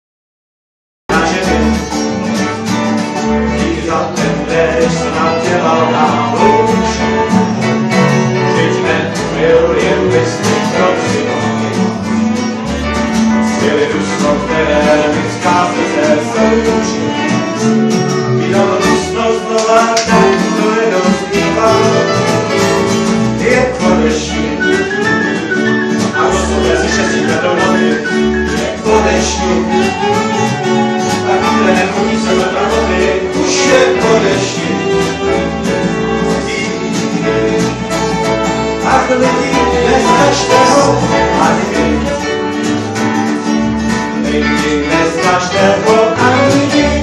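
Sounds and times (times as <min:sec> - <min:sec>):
acoustic swing band: 0:01.1 - 0:47.0.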